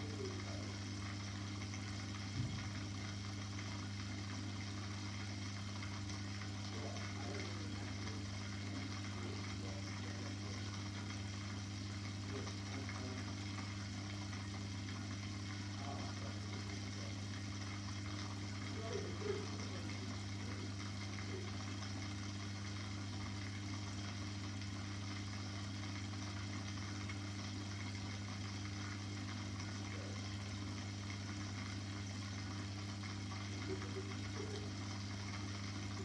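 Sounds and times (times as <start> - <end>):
aquarium pump humming: 0.0 - 36.0.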